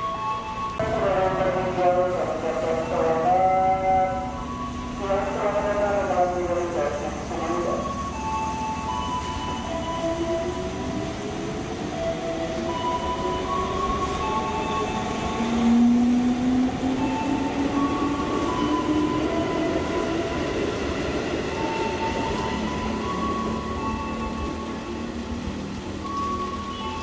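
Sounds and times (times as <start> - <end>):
wheels rumbling on rails: 0.0 - 27.0.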